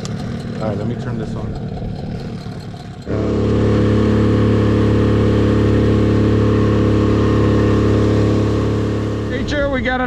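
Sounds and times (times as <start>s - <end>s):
outboard motor running: 0.0s - 10.0s
hull rushing through water: 1.6s - 10.0s.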